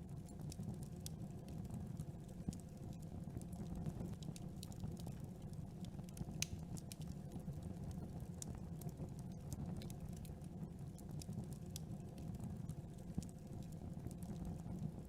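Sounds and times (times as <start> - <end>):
low rumble of flames: 0.0 - 15.0
wood crackling and popping: 0.2 - 15.0.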